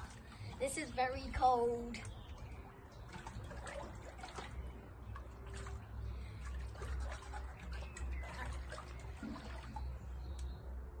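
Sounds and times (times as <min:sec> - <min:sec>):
water sloshing in a tub: 0:00.0 - 0:10.5.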